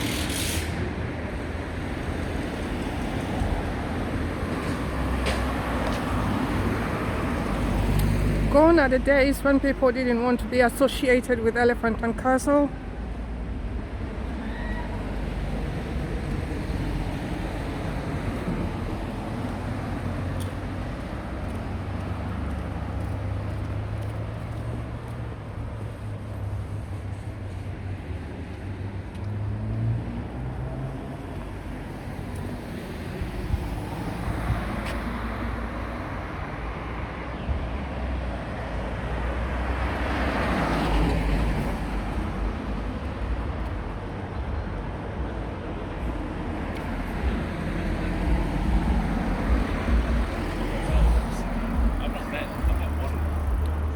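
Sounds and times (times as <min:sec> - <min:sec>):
low rumble of traffic: 0:00.0 - 0:53.9
vehicles passing close: 0:00.0 - 0:53.9.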